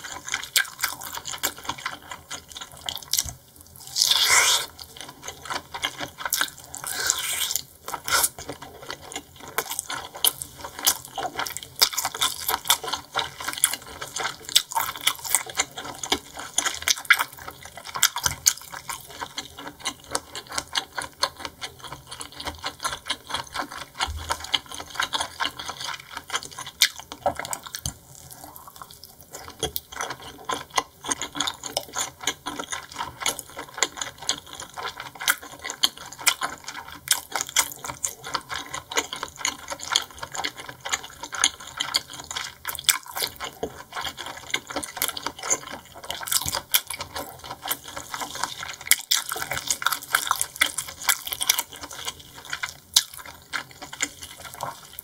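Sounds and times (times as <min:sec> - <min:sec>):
wet chewing clicks and smacks: 0:00.0 - 0:55.0.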